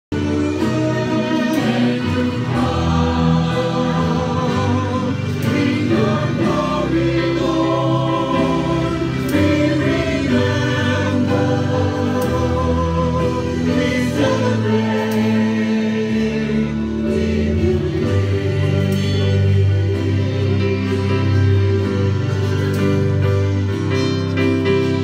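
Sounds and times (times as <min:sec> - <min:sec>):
choir singing sacred music: 0:00.2 - 0:23.1.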